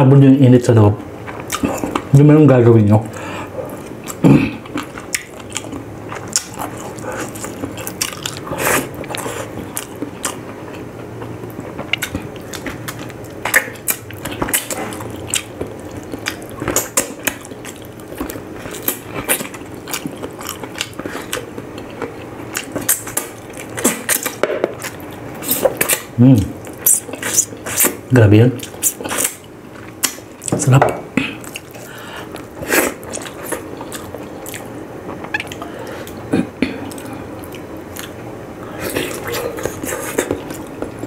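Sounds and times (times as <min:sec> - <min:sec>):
man biting and chewing: 0:03.2 - 0:30.6, 0:31.2 - 0:41.0.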